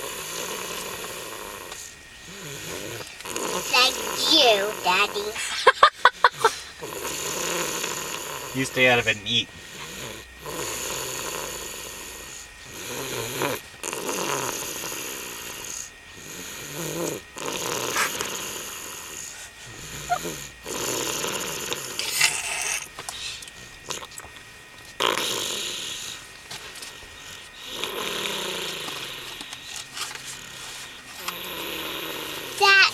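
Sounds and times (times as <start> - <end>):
toddler snoring: 0.0 - 24.2, 25.0 - 32.9.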